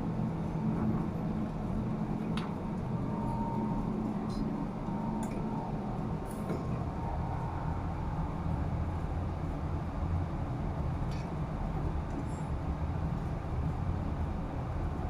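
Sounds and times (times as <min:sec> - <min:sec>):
low machinery drone: 0:00.0 - 0:15.0.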